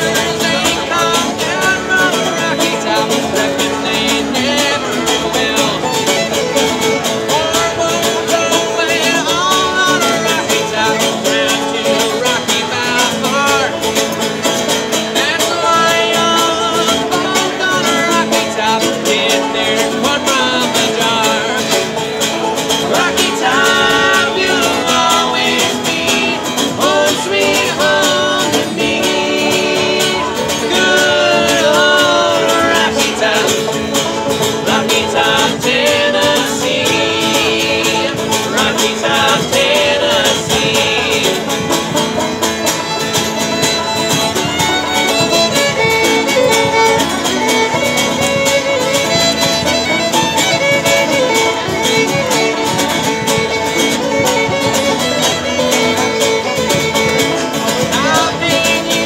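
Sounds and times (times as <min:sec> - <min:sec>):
bowed fiddle: 0:00.0 - 0:59.0
picked banjo: 0:00.0 - 0:59.0
strummed acoustic guitar: 0:00.0 - 0:59.0.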